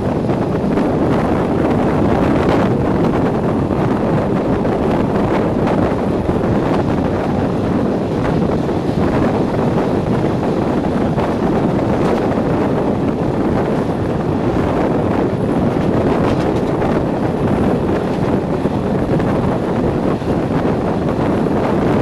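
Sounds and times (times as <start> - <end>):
train running noise: 0.0 - 22.0
wind rushing over microphone: 0.0 - 22.0.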